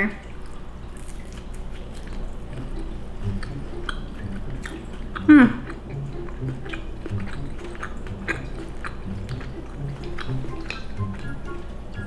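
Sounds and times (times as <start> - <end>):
wet chewing sounds: 0.0 - 12.0.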